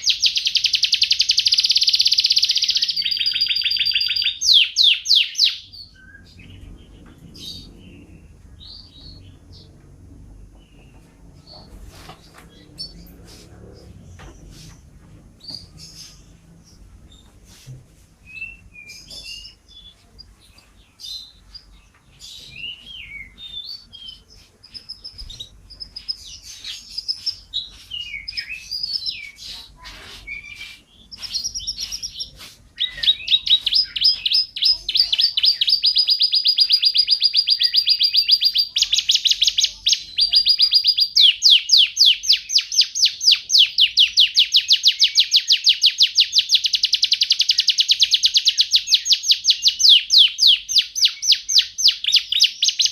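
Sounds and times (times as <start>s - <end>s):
canary singing: 0.0s - 9.8s, 18.2s - 52.9s.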